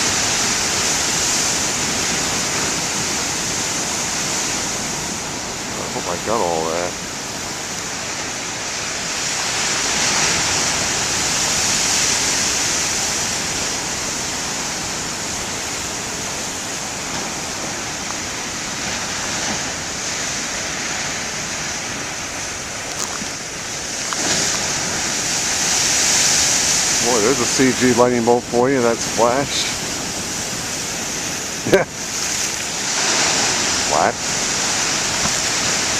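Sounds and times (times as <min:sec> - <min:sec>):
storm waves breaking on shore: 0:00.0 - 0:35.9.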